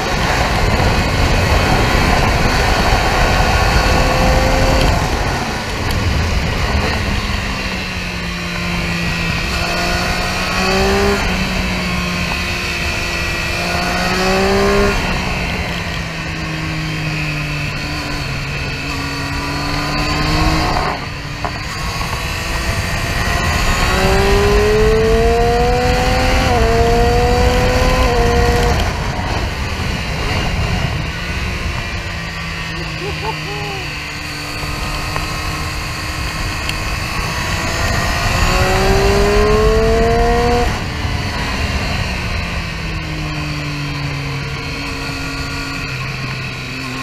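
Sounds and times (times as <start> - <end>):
wind rush: 0.0 - 32.9, 33.9 - 46.2
motorcycle engine revving: 0.0 - 47.0.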